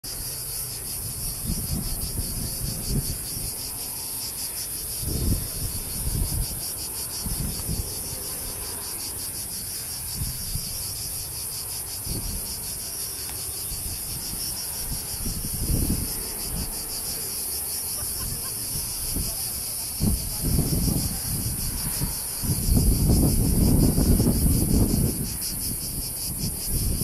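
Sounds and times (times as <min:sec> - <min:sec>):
wind buffeting microphone: 0:00.1 - 0:13.0, 0:13.6 - 0:27.0
insects buzzing: 0:00.1 - 0:27.0.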